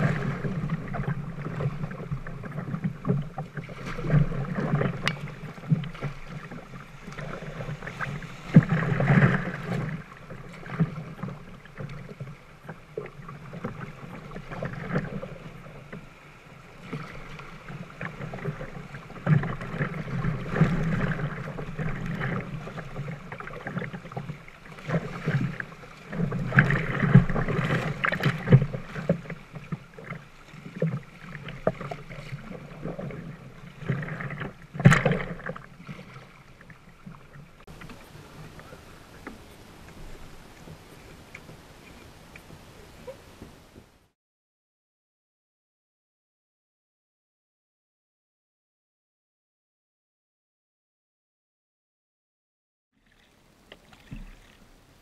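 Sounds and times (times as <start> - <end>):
paddle strokes: 0.0 - 44.2, 53.0 - 55.0
water splashing against hull: 0.0 - 44.2, 53.0 - 55.0.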